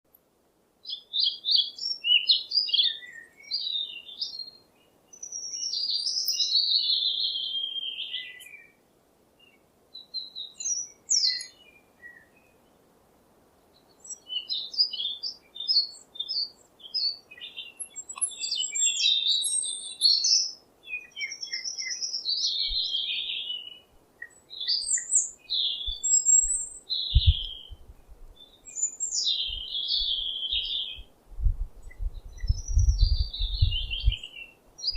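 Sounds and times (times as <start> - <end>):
birds chirping and singing: 0.9 - 8.7, 10.0 - 12.5, 13.8 - 31.1, 31.8 - 34.9.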